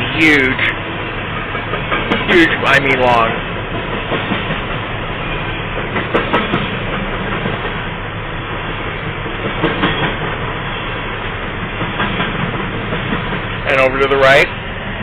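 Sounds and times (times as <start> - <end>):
wheels clacking over rail joints: 0.0 - 14.6
train wheels rumbling on rails: 0.0 - 15.0.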